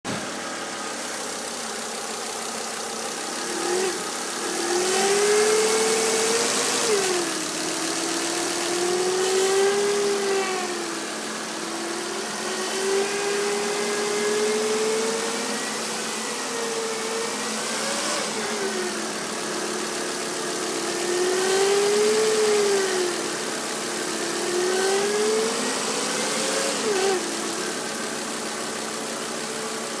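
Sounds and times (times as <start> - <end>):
car engine revving: 0.1 - 30.0.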